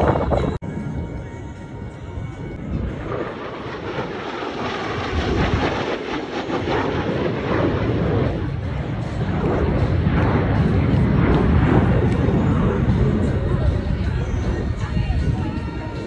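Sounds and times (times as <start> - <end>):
jet flying past overhead: 2.2 - 16.0.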